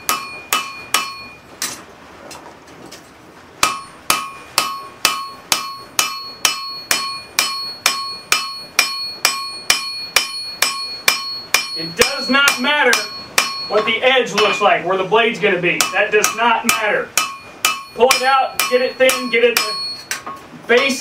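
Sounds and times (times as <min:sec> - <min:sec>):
hammer striking metal on anvil: 0:00.0 - 0:01.4, 0:03.6 - 0:14.8, 0:15.8 - 0:21.0.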